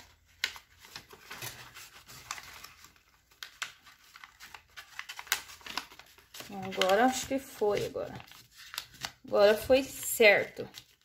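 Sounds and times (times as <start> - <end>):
kraft paper crinkling: 0.0 - 11.0.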